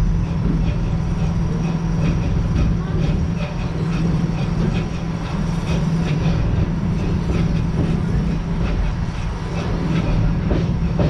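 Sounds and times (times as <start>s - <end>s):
track clicking: 0.0s - 11.0s
train rumbling on track: 0.0s - 11.0s.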